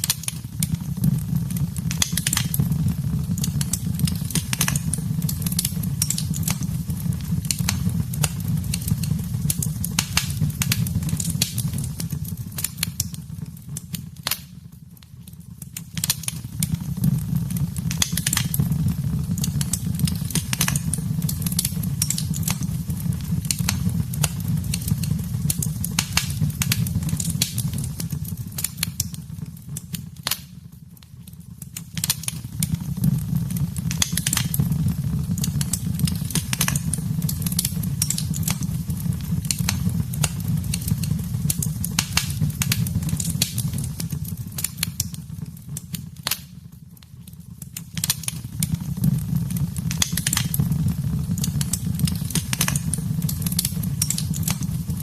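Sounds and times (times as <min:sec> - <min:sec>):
low rumble of flames: 0:00.0 - 0:55.0
wood fire crackling and popping: 0:00.0 - 0:55.0.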